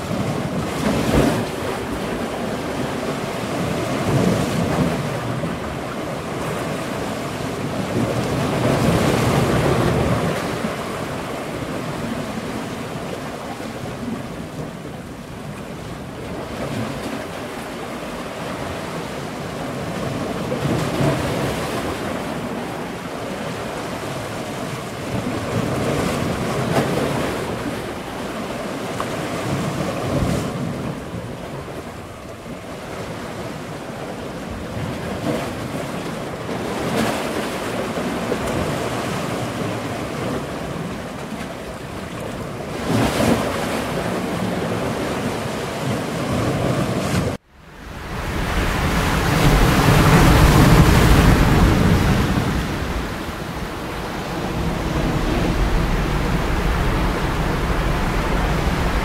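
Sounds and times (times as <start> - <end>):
ocean waves washing: 0.0 - 59.0.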